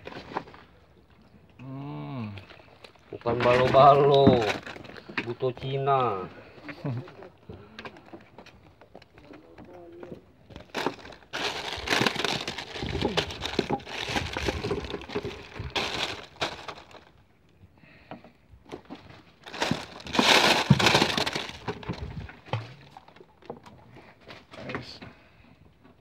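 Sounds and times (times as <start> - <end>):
rustling handling noise: 2.7 - 17.2, 18.6 - 25.0.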